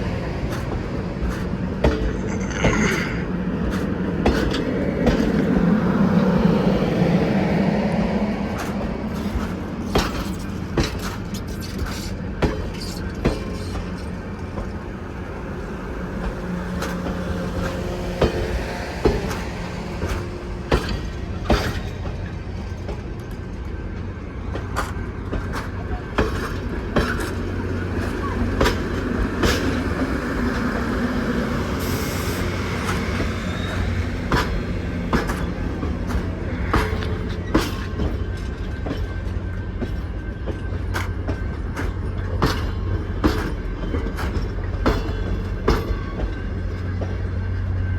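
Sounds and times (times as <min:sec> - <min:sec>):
train rumbling on track: 0:00.0 - 0:47.9.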